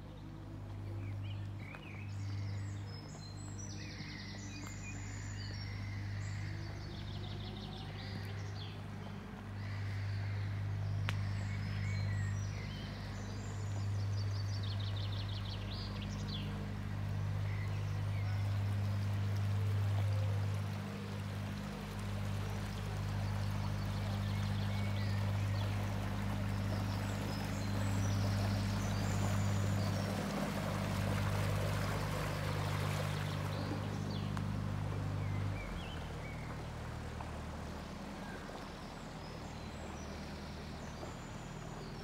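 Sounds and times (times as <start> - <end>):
low mechanical hum: 0.0 - 42.0
songbirds singing: 0.0 - 42.0.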